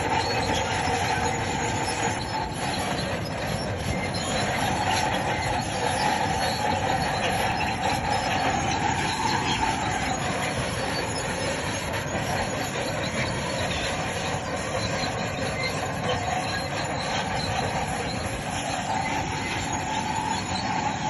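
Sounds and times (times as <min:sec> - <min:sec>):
bulldozer diesel engine running: 0:00.0 - 0:21.0
steel tracks squealing: 0:00.0 - 0:21.0.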